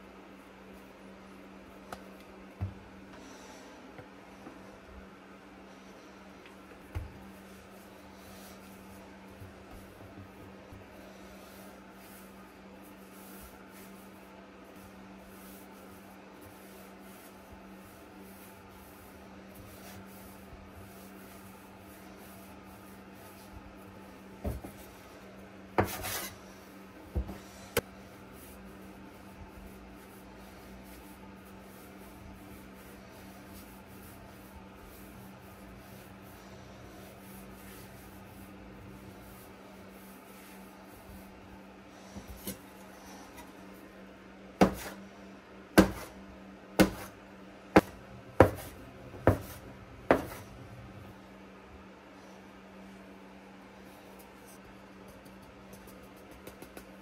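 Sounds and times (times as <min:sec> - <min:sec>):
hands rubbing dough: 0:03.8 - 0:45.1, 0:45.7 - 0:51.1, 0:53.7 - 0:57.0.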